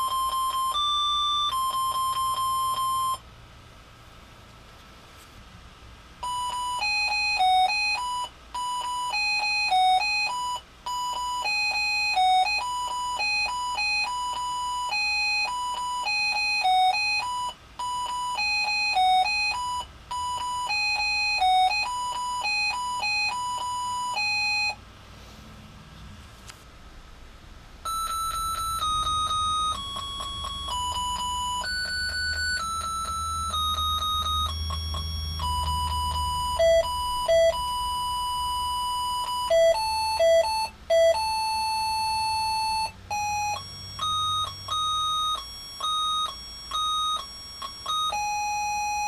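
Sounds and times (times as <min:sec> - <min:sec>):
electronic beep melody: 0:00.0 - 0:03.2, 0:06.2 - 0:24.8, 0:27.8 - 0:49.0.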